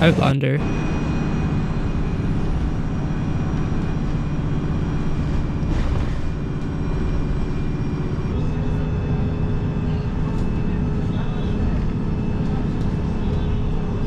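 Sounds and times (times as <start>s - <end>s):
bus engine and road noise: 0.0s - 14.0s
faint high whine: 0.0s - 14.0s.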